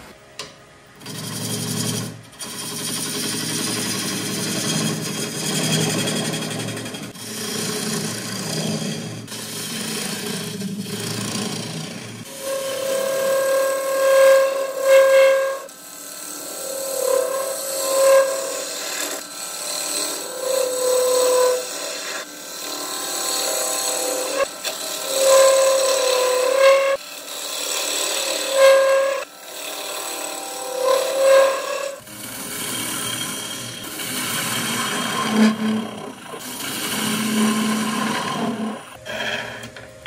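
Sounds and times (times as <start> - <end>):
lathe gouge cutting wood: 1.0 - 39.8.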